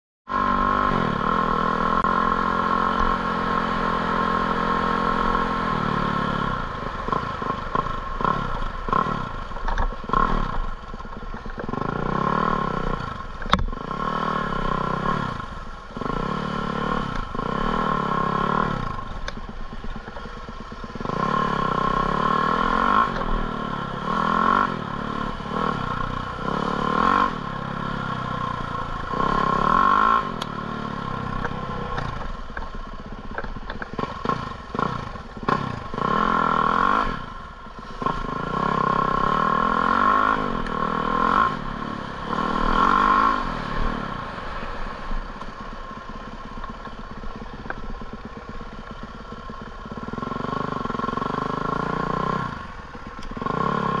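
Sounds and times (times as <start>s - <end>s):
engine revving: 0.3s - 54.0s.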